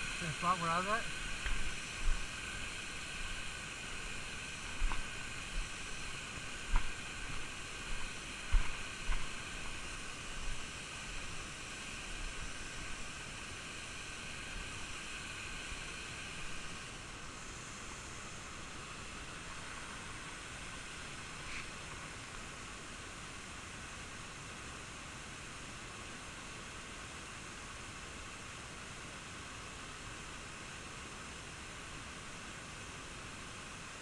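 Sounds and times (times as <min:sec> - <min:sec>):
creek and waterfall rushing: 0:00.0 - 0:34.0.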